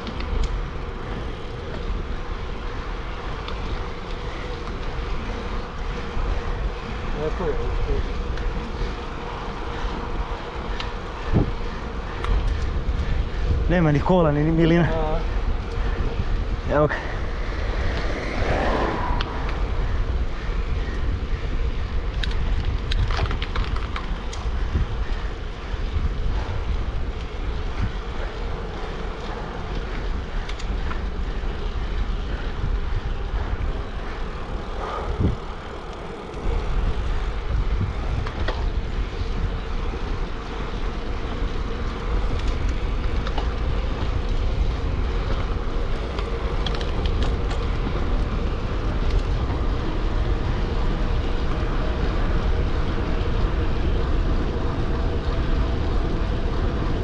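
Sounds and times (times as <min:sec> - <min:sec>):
bike clicks and rattles: 0:00.0 - 0:57.0
bike road noise: 0:00.0 - 0:57.0
wind rumbling on microphone: 0:00.0 - 0:57.0.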